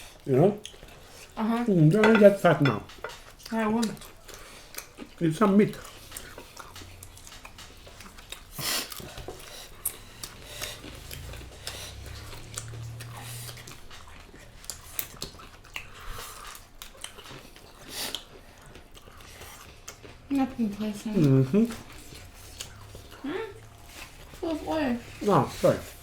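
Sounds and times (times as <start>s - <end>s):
crispy food crunching: 0.2s - 26.0s.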